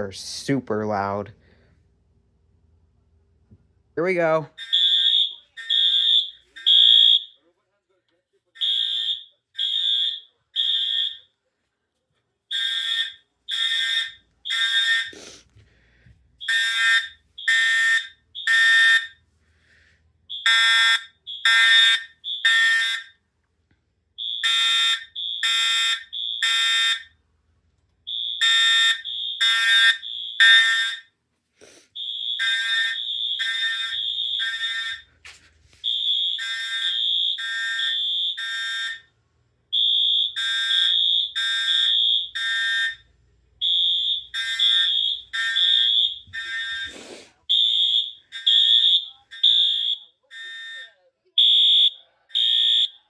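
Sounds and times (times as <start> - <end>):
fire alarm horns: 4.0 - 7.5, 8.5 - 11.4, 12.5 - 23.4, 24.0 - 31.2, 31.9 - 53.0.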